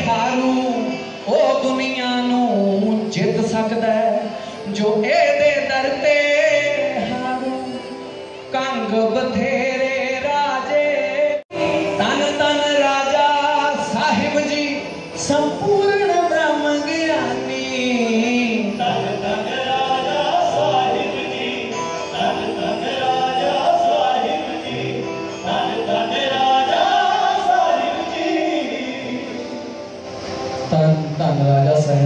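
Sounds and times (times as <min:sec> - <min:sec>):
person singing devotional song: 0:00.0 - 0:30.0
musical accompaniment: 0:00.0 - 0:32.0.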